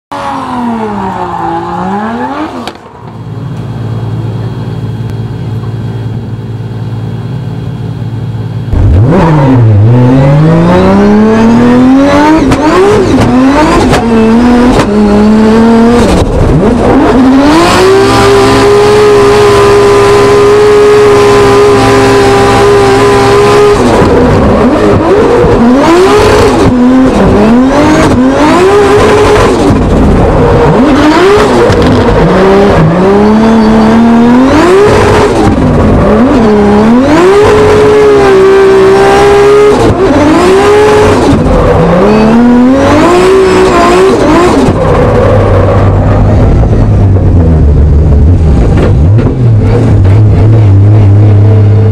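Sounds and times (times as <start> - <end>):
car engine revving: 0.1 - 51.9.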